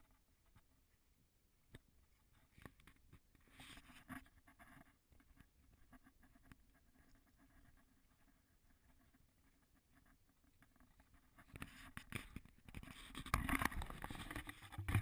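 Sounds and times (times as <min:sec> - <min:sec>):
soft patter: 0:00.0 - 0:15.0.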